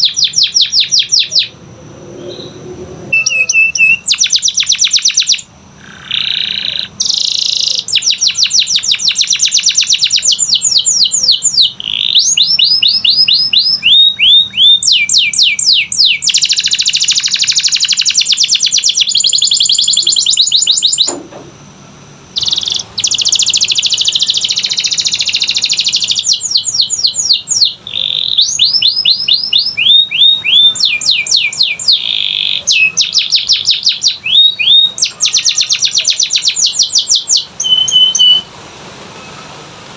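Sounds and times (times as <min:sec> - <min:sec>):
canary singing trills: 0:00.0 - 0:21.2, 0:22.3 - 0:39.6.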